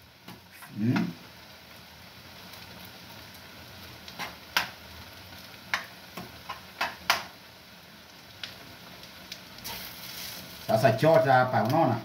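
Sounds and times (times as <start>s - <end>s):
soft sizzle: 0.0s - 12.0s.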